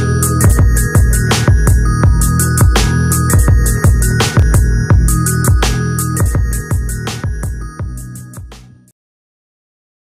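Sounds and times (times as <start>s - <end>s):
electronic music with fast beat: 0.0s - 8.9s.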